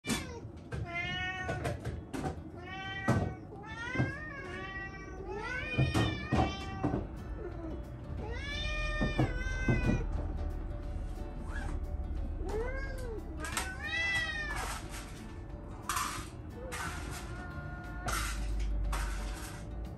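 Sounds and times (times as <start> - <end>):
cats meowing: 0.0 - 10.2, 11.6 - 15.0, 16.1 - 19.6.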